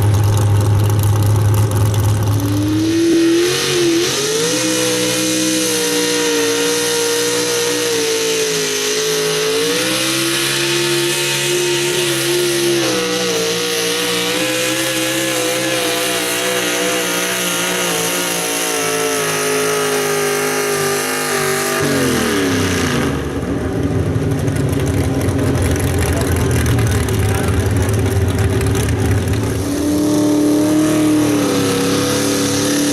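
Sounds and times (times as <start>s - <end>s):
truck engine at high revs: 0.0s - 32.9s.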